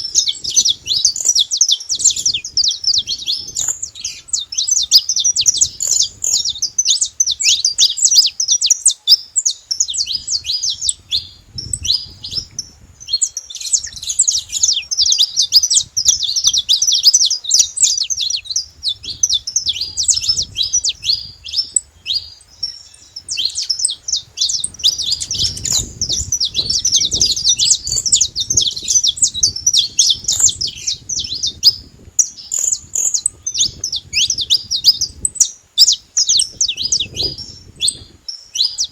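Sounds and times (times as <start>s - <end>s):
finches singing and chirping: 0.0s - 38.9s.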